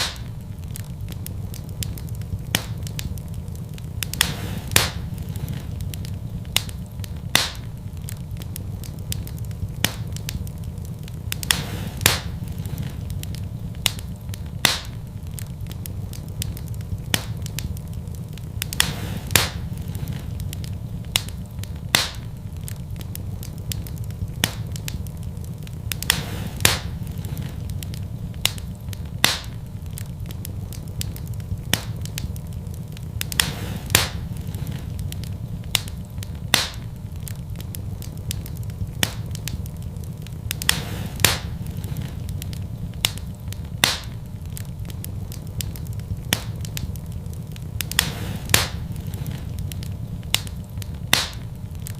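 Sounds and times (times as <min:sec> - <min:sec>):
fire crackling and popping: 0:00.0 - 0:51.9
low rumble of flame: 0:00.0 - 0:51.9.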